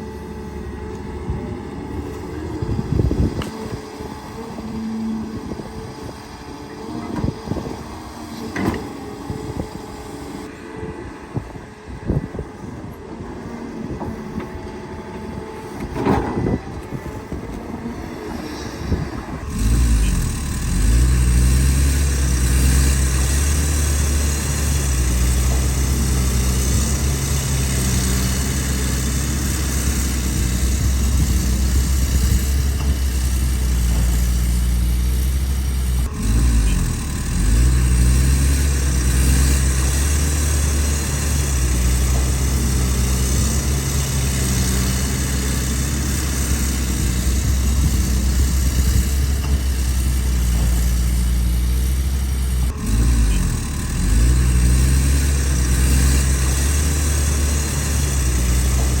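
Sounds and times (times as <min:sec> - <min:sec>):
excavator diesel engine humming: 0:00.0 - 0:59.0.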